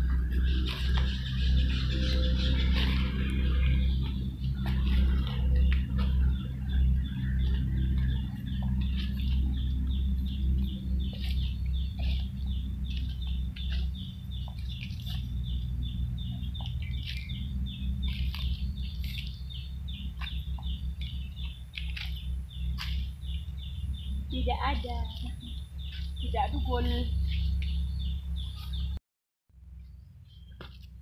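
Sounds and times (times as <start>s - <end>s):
birds chirping: 0.0s - 29.0s, 29.7s - 31.0s
loud low rumble: 0.0s - 29.0s.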